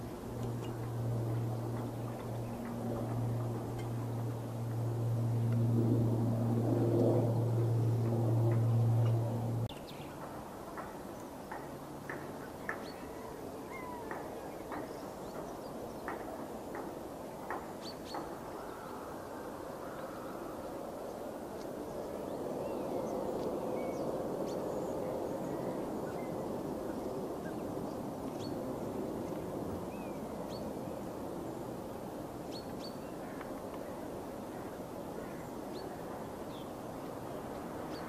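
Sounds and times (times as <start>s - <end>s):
distant jet airliner rumble: 0.0s - 38.0s.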